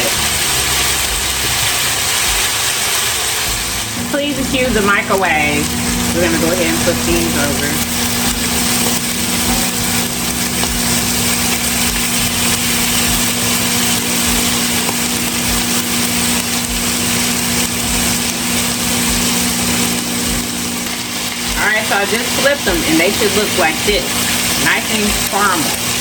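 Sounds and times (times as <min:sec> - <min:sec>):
chicken sizzling in a skillet: 0:00.0 - 0:26.0
microwave oven humming: 0:00.0 - 0:26.0.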